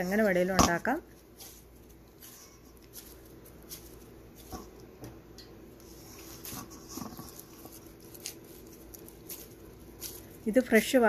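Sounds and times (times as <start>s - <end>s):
fingers scraping dough in steel bowl: 0.0s - 4.9s, 5.8s - 10.4s.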